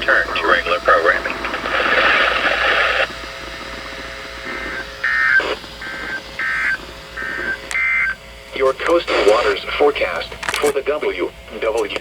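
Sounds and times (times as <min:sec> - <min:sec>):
radio hiss: 0:00.0 - 0:12.0
click: 0:01.2 - 0:10.8, 0:11.6 - 0:12.0.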